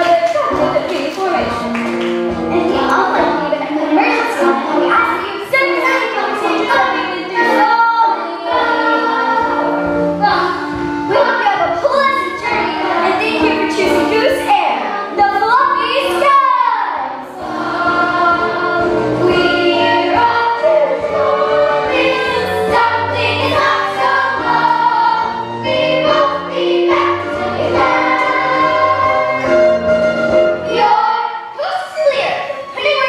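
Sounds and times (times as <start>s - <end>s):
instrumental accompaniment with bass: 0.0s - 31.1s
young voices singing together: 2.4s - 33.0s.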